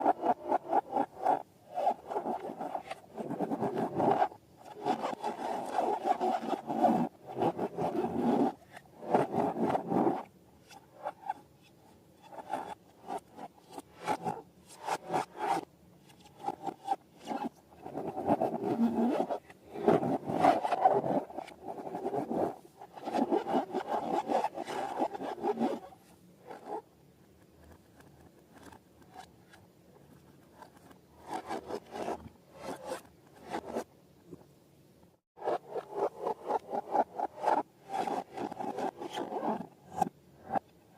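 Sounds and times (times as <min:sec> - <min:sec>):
rubbery rubbing and scraping: 0:00.0 - 0:33.9, 0:35.4 - 0:40.7.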